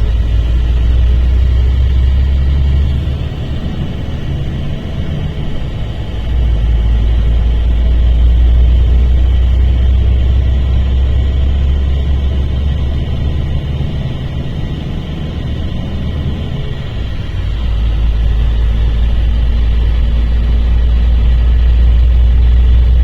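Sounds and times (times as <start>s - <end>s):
diesel bus engine droning: 0.0s - 23.0s.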